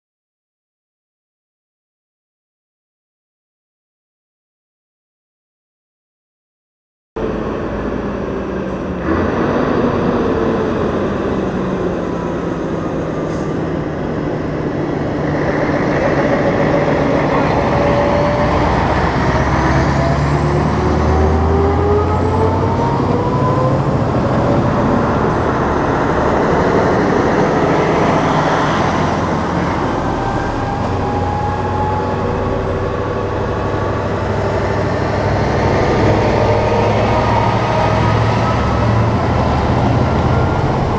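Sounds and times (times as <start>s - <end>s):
truck diesel engines pulling: 7.2s - 40.9s.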